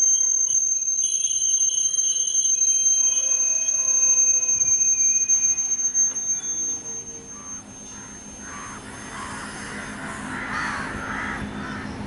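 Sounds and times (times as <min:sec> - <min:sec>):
train wheels squealing: 0:00.0 - 0:12.0.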